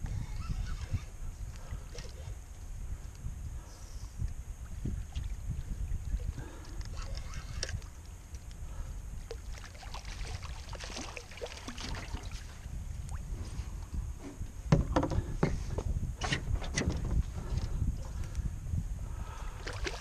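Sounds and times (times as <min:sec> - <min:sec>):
low wind rumble on microphone: 0:00.0 - 0:20.0.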